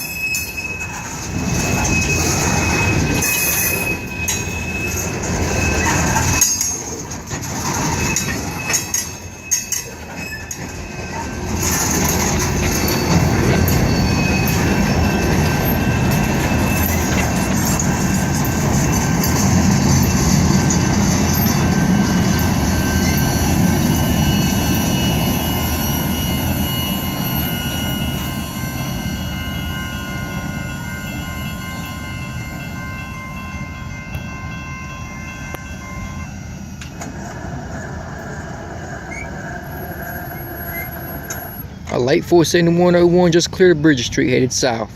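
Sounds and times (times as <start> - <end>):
train wheel squeal: 0.0 - 44.2
freight train rumbling past: 0.0 - 44.9.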